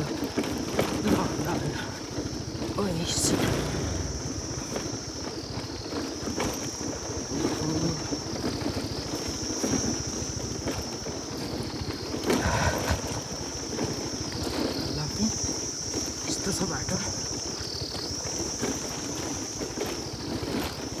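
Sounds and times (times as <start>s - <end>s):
footsteps on stone path: 0.0s - 21.0s
insects droning: 0.0s - 21.0s.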